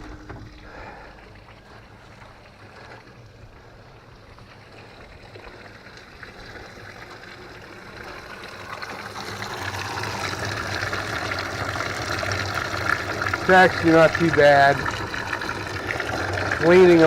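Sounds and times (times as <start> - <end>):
runoff water rushing: 0.0 - 17.0.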